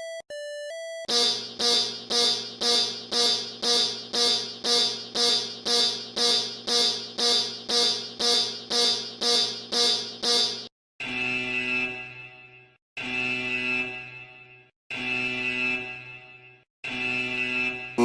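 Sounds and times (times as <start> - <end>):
pulsing electronic alarm buzz: 1.0 - 18.0.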